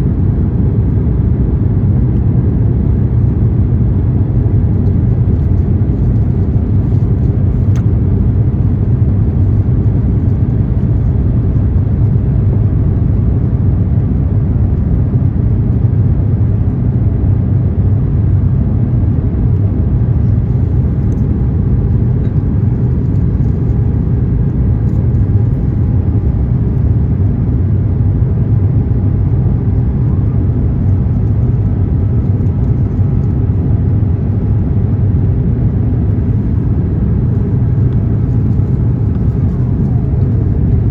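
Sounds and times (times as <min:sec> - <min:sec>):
aircraft engines rumbling: 0:00.0 - 0:40.9
airflow in cabin: 0:00.0 - 0:40.9.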